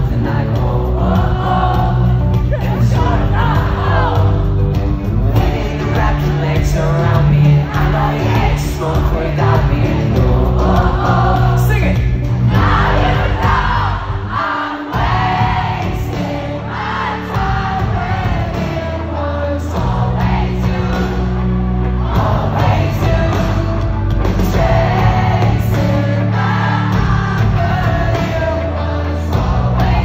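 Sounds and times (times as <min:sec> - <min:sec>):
live pop rock band: 0:00.0 - 0:30.0
male lead vocal: 0:00.0 - 0:30.0.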